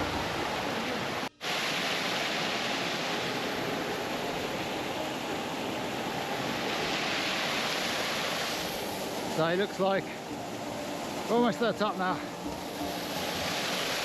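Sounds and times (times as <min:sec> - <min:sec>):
stream and waterfall over rocks: 0:00.0 - 0:14.0.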